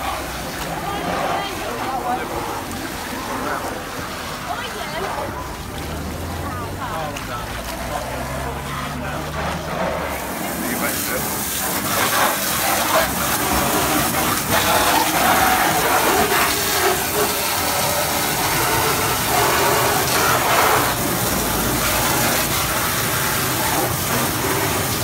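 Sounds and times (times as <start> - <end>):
hissing water jet: 0.0 - 25.0.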